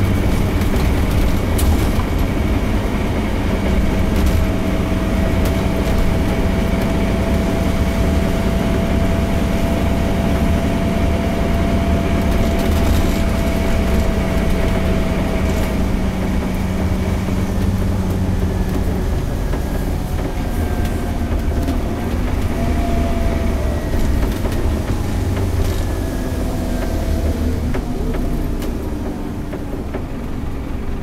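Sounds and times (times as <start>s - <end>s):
bus diesel engine rumble: 0.0s - 31.0s
gearbox whine: 0.0s - 31.0s.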